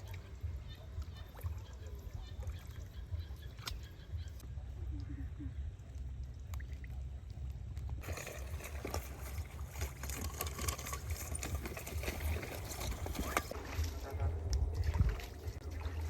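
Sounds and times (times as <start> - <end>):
water trickling and splashing: 0.0 - 5.0, 5.6 - 16.0
steady low rumble: 0.0 - 10.1, 11.9 - 16.0.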